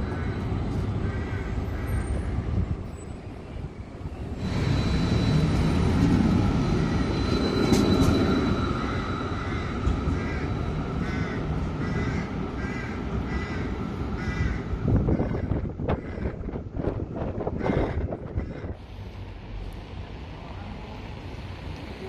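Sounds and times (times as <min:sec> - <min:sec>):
tram rumbling and whining: 0:00.0 - 0:22.0.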